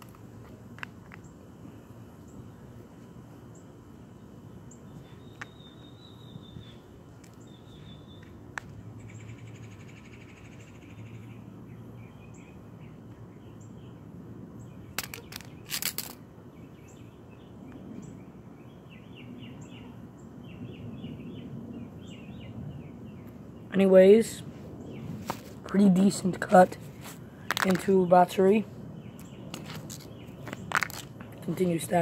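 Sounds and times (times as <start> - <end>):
birds chirping: 3.5 - 8.4, 9.0 - 15.7, 16.5 - 32.0.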